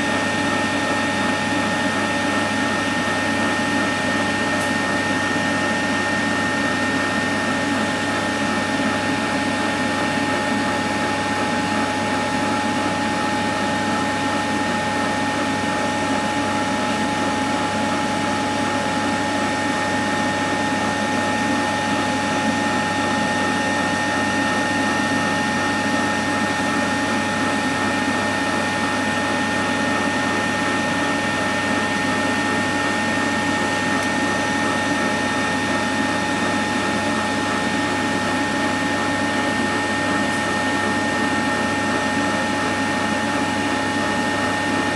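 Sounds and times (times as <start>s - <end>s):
hot-air fryer whirring: 0.0s - 44.9s.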